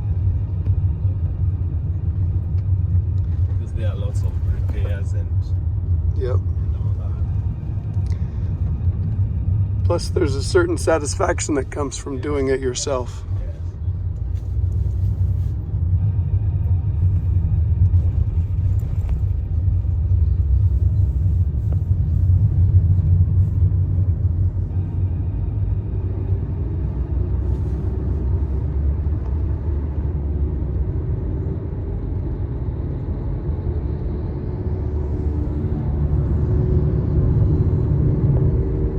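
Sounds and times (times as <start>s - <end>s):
car rumble on the move: 0.0s - 38.9s.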